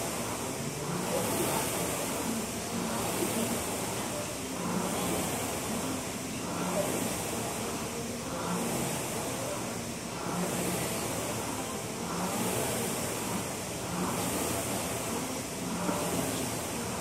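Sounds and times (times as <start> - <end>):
rowing machine flywheel whooshing: 0.0 - 17.0.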